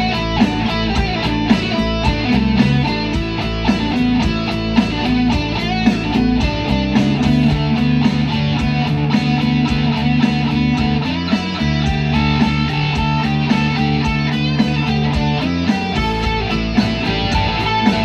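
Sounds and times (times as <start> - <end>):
guitar-led instrumental music: 0.0 - 18.0.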